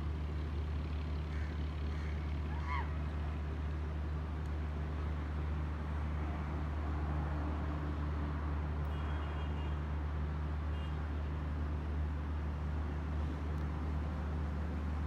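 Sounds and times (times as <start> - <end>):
road noise: 0.0 - 15.0
vehicle engine humming: 0.0 - 15.0.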